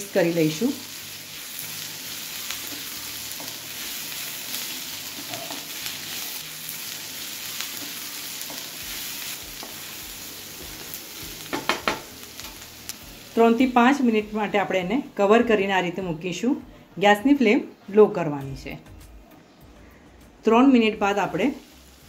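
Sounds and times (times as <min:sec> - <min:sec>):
onions sizzling in hot oil: 0:00.0 - 0:16.4, 0:20.6 - 0:22.0.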